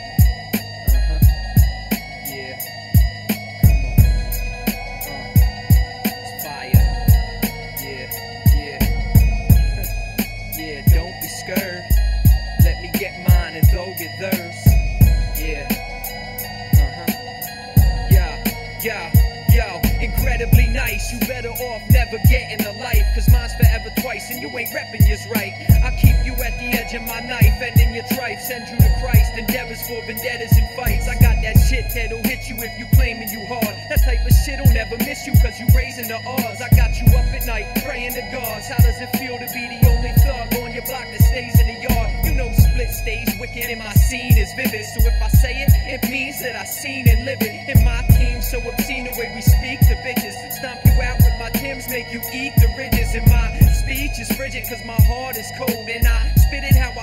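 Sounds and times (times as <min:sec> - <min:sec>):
heavy bass drum: 0:00.0 - 0:46.3, 0:47.1 - 0:57.0
rapping over a beat: 0:00.0 - 0:57.0.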